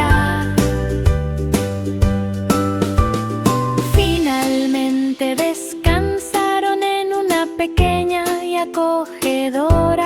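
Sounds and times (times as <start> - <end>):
instrumental children's song music: 0.0 - 10.0.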